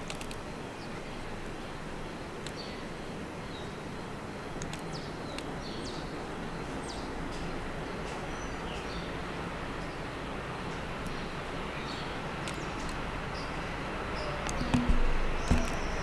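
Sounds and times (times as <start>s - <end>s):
steady background noise: 0.0s - 16.0s
birds chirping: 0.7s - 16.0s.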